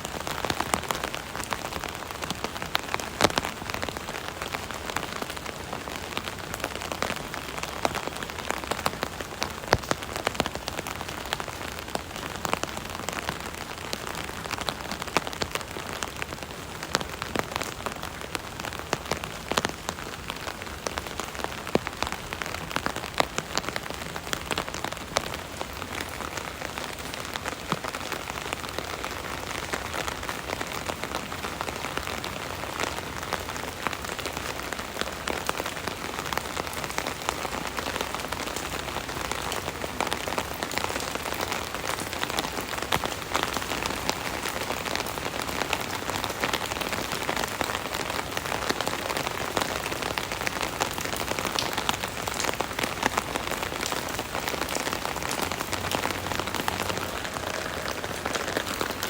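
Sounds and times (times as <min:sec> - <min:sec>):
rain pattering on umbrella: 0:00.0 - 0:59.0.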